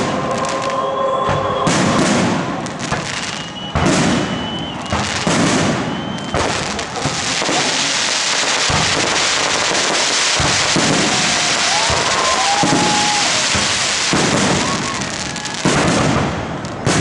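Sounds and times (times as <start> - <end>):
firework crackling: 0.0 - 17.0
firework shells booming: 0.0 - 17.0
high firework whistle: 0.0 - 17.0.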